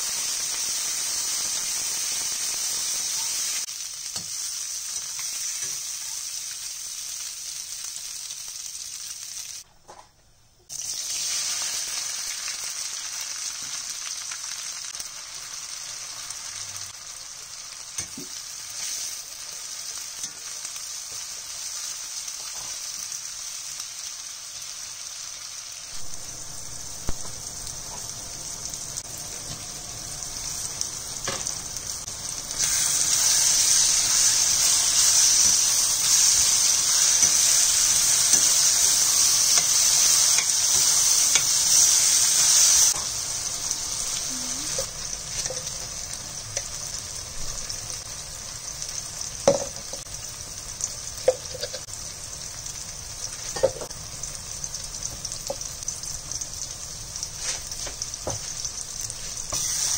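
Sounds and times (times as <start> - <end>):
vegetables sizzling in a pan: 0.0 - 9.7, 10.6 - 59.9.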